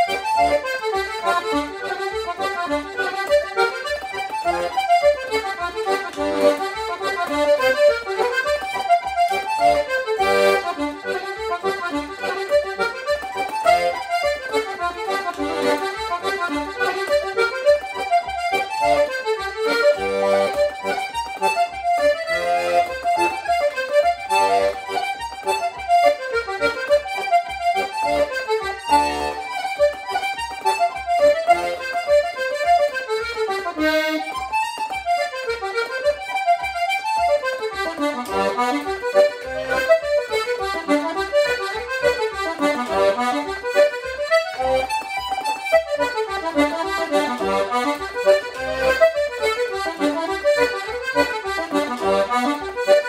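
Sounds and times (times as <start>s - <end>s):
button accordion playing a reel: 0.0s - 53.0s.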